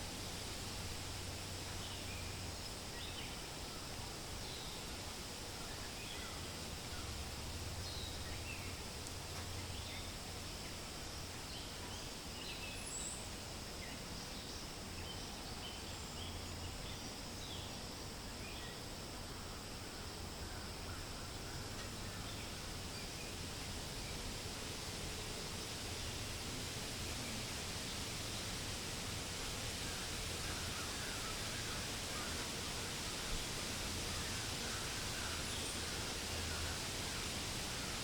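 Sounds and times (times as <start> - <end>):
wind through leaves: 0.0 - 38.0.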